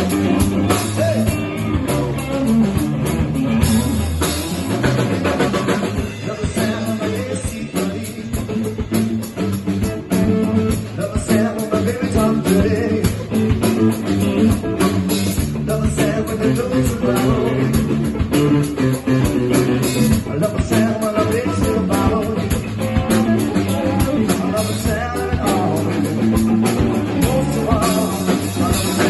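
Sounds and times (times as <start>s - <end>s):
bass guitar: 0.0s - 29.0s
drum kit beat: 0.0s - 29.0s
electric guitar: 0.0s - 29.0s.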